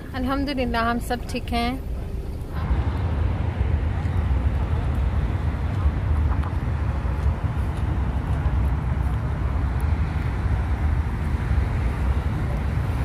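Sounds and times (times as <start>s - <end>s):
wind buffeting microphone: 2.1s - 13.0s.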